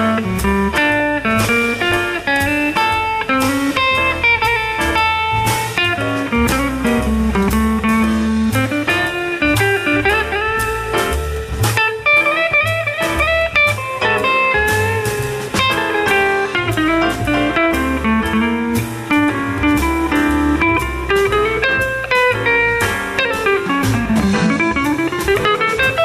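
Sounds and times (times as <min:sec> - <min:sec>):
blues band music: 0:00.0 - 0:26.0
sliding guitar melody: 0:00.0 - 0:26.0.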